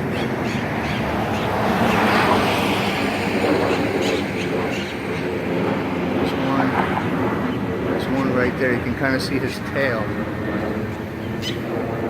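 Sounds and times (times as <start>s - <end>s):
passing vehicles rumbling: 0.0s - 12.0s.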